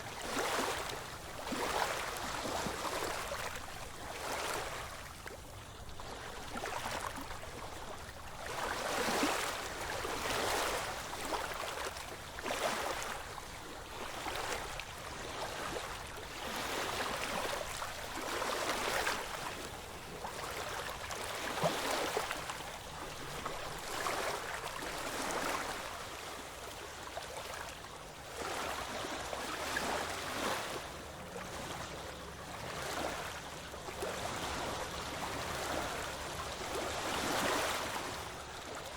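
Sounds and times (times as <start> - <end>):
small waves breaking ashore: 0.0 - 38.9.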